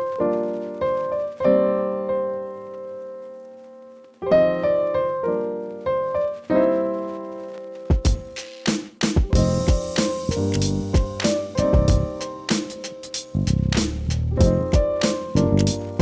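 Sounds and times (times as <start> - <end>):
piano chords: 0.0 - 8.4, 9.2 - 16.0.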